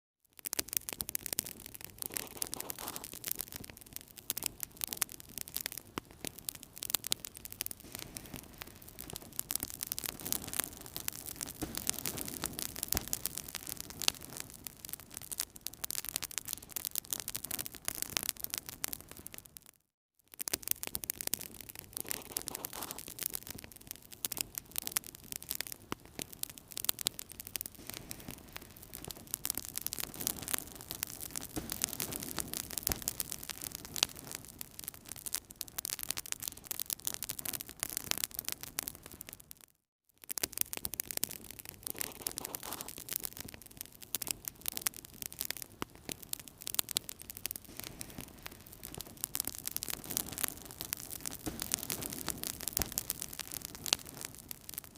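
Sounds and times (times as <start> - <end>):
wood fire crackling: 0.3 - 54.9
rush of flames: 0.8 - 19.0, 20.8 - 38.9, 40.6 - 43.2, 45.5 - 54.9.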